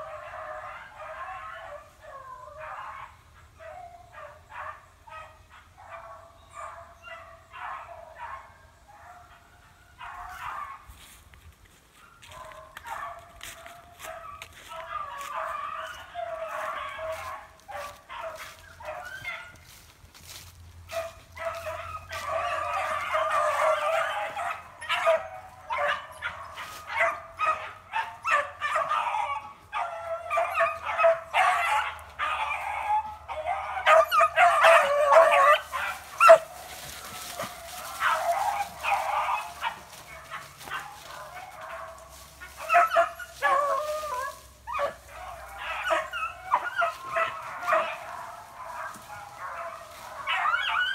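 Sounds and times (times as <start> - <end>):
hounds baying and yipping: 0.0 - 50.9.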